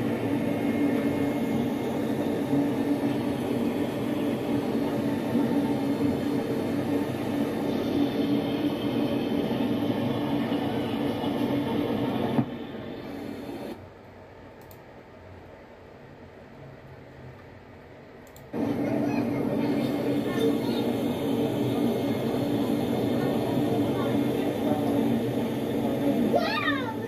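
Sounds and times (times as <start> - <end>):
mechanical hum and rumble: 0.0 - 27.0.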